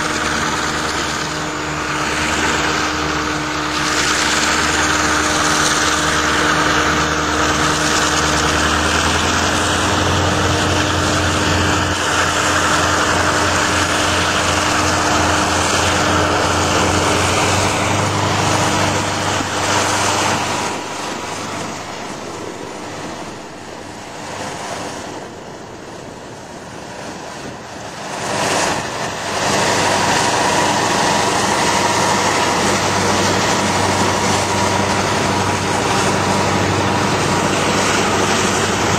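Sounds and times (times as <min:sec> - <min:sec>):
diesel locomotives under load: 0:00.0 - 0:38.9.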